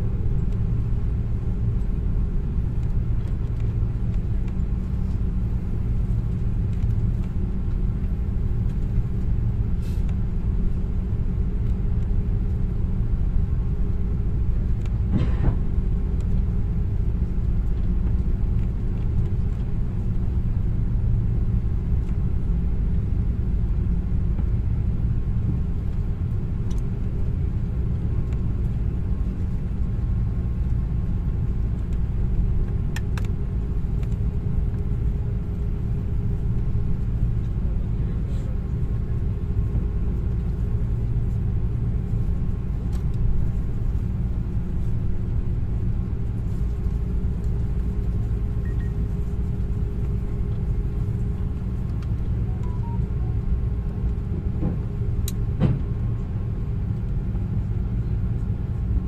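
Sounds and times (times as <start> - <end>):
airliner taxiing rumble: 0.0 - 59.0.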